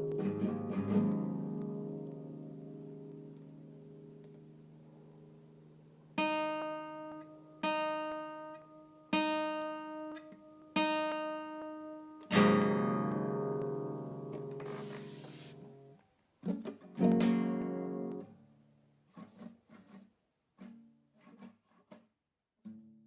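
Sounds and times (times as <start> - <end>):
solo acoustic guitar: 0.0 - 23.0.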